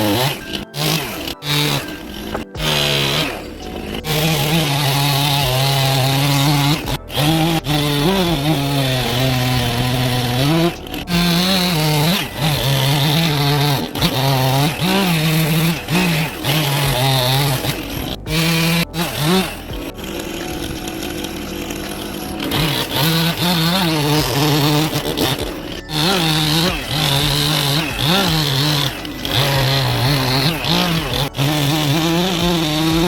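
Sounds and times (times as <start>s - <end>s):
chainsaw carving wood: 0.0s - 33.0s.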